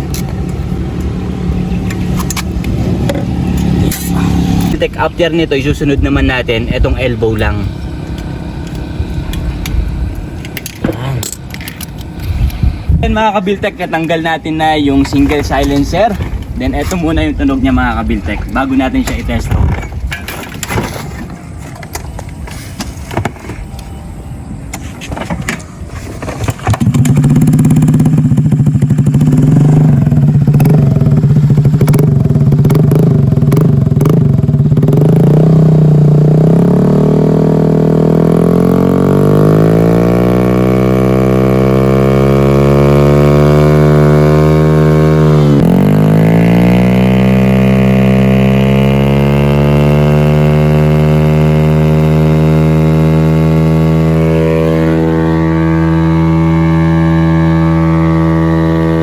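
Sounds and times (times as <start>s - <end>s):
loud motorcycle engine revving: 0.0s - 20.9s, 26.4s - 59.0s.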